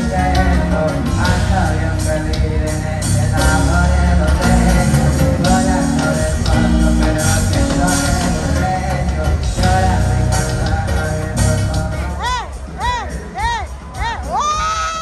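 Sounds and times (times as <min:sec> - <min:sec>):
tuba bass line: 0:00.0 - 0:13.0
live band music: 0:00.0 - 0:15.0.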